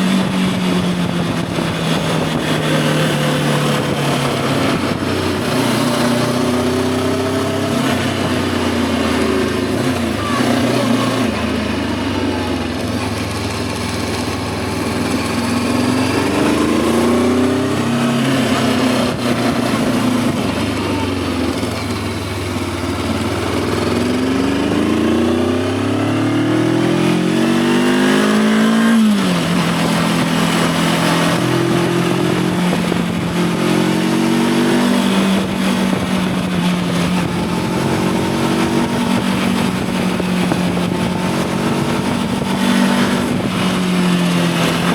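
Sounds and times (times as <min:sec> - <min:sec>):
wind noise: 0:00.0 - 0:11.6, 0:13.0 - 0:44.9
motorcycle engine accelerating: 0:00.0 - 0:44.9.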